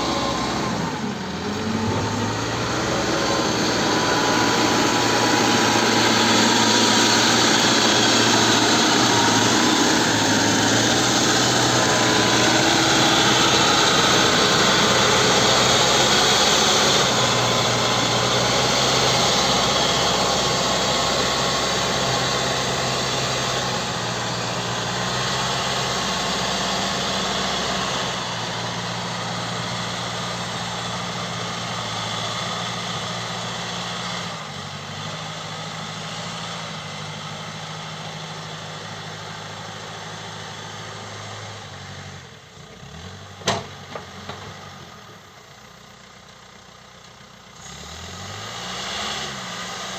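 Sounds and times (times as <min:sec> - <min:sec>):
backhoe diesel engine running: 0:00.0 - 0:48.0.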